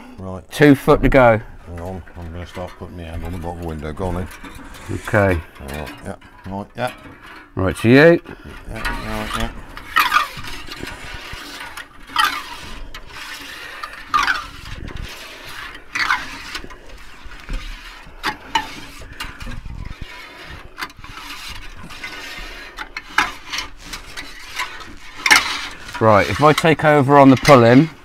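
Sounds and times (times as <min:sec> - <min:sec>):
cutting wire scraping screech: 0:00.8 - 0:28.0.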